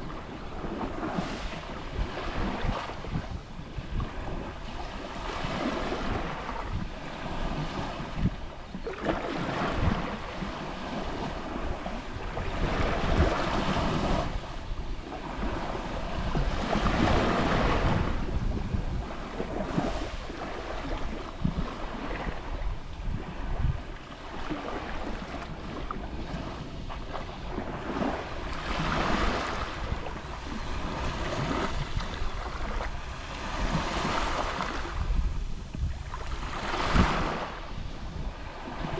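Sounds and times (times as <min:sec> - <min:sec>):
waves lapping on shore: 0:00.0 - 0:38.9.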